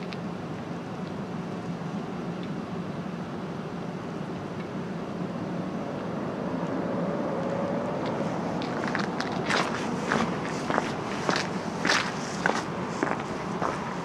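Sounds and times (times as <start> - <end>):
vehicle rumbling: 0.0 - 14.0
faint rising whine: 1.8 - 14.0.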